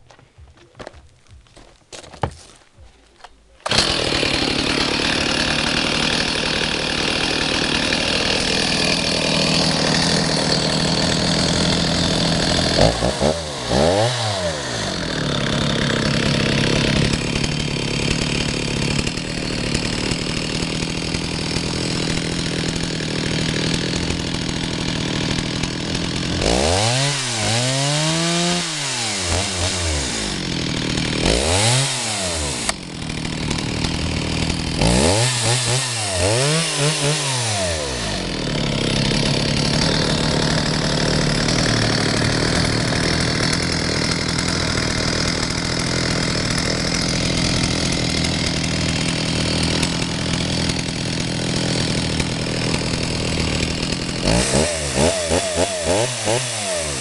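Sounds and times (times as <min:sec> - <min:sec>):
chainsaw engine revving: 0:03.6 - 0:57.0.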